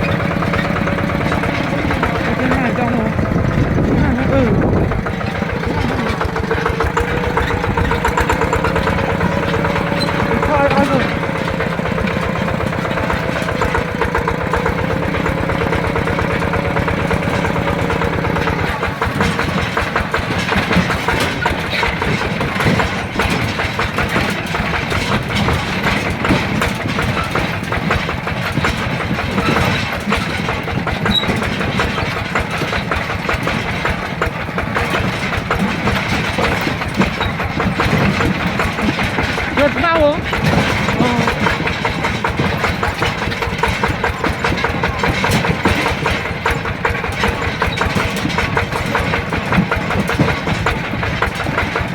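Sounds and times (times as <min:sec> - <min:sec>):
diesel tractor engine chugging: 0:00.0 - 0:51.9.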